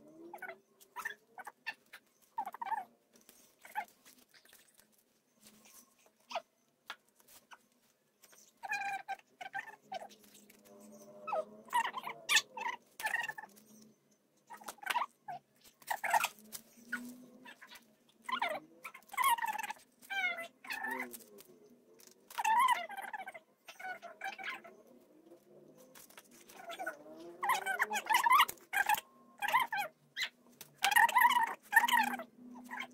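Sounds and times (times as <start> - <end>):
animal calling: 0.0 - 2.9, 3.6 - 4.9, 8.6 - 13.8, 14.5 - 32.9.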